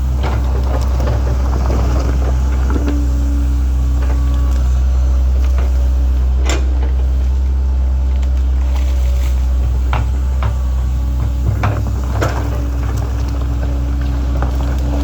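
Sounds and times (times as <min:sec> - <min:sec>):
excavator bucket scraping rock: 0:00.0 - 0:07.7, 0:08.3 - 0:15.0
diesel engine droning: 0:00.0 - 0:15.0.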